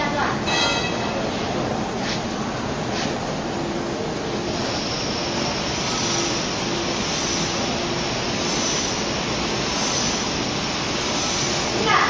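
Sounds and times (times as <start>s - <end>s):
machine whirring with hiss: 0.0s - 12.0s.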